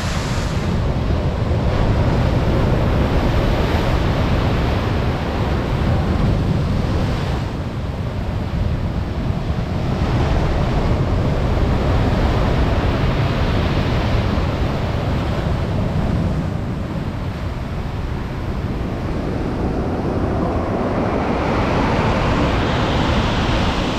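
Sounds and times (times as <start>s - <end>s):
surf waves breaking: 0.0s - 23.9s
wind buffeting microphone: 0.0s - 23.9s.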